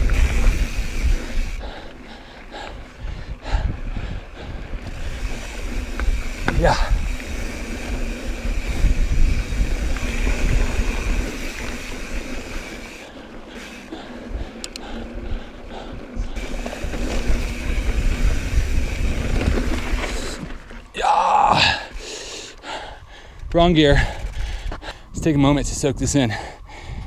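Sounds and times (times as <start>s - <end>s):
wind buffeting microphone: 0.0s - 20.9s, 21.6s - 27.0s
bike tyres rumbling over trail: 0.0s - 26.2s.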